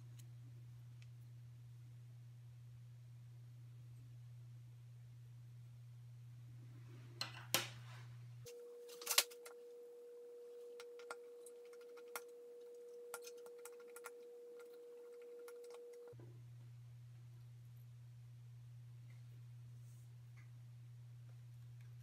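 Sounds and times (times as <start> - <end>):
steady high hum: 0.0 - 22.0.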